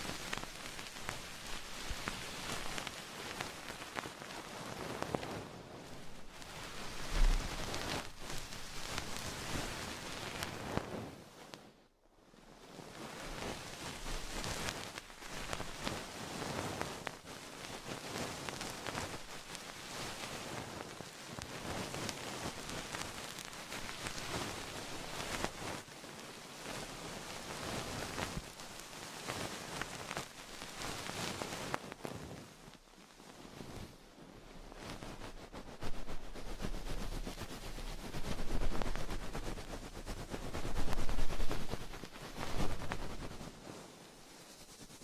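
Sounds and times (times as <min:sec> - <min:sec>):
close-up rustling and crackling: 0:00.0 - 0:45.0.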